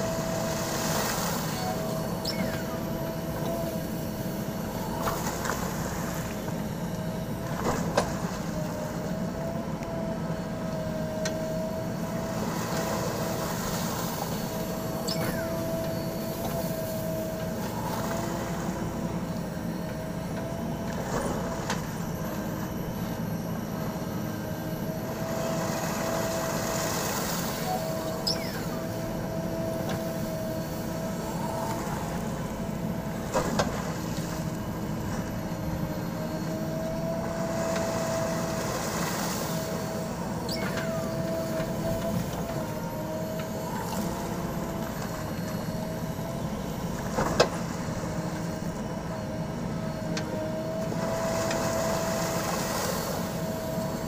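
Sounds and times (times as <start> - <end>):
backhoe diesel engine: 0.0 - 54.0
wavering whine: 0.0 - 54.0.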